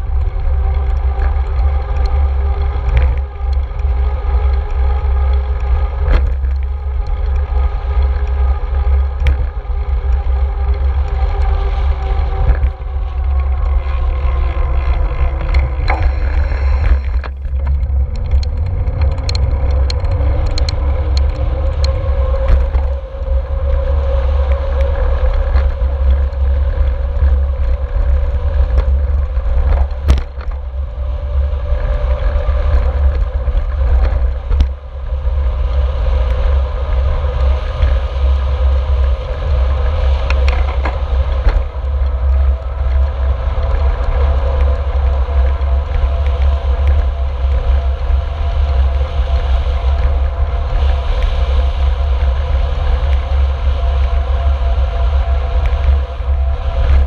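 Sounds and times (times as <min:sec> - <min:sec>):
deep wind rumble: 0:00.0 - 0:57.0
steady multi-tone hum: 0:00.0 - 0:57.0
bike clicks and knocks: 0:00.1 - 0:35.9, 0:37.7 - 0:47.9.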